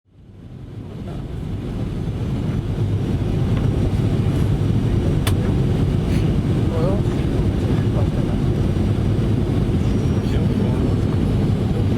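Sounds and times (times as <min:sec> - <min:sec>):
airplane landing rumble: 0:00.1 - 0:11.9.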